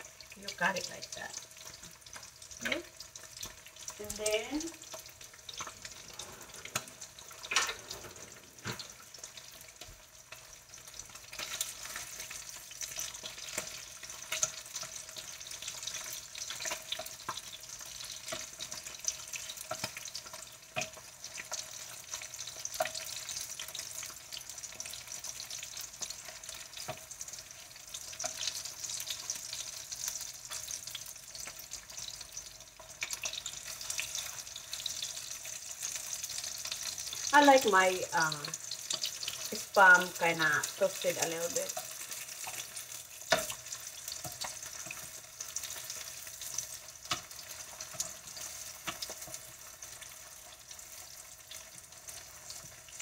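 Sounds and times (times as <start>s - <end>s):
meat sizzling in a frying pan: 0.0s - 53.0s.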